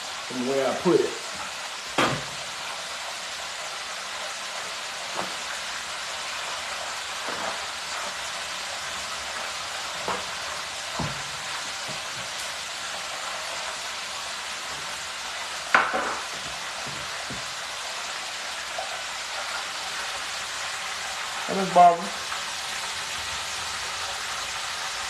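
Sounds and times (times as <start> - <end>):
chicken sizzling in deep fryer: 0.0 - 25.0.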